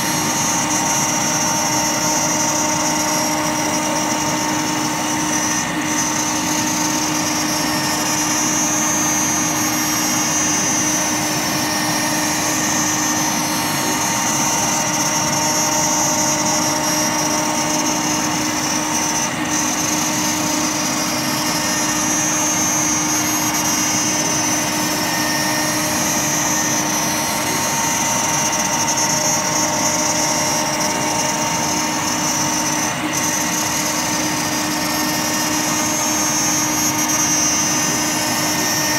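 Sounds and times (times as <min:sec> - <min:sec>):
cutting acrylic: 0:00.0 - 0:38.9
router spindle whine: 0:00.0 - 0:38.9
vacuum dust extractor: 0:00.0 - 0:38.9.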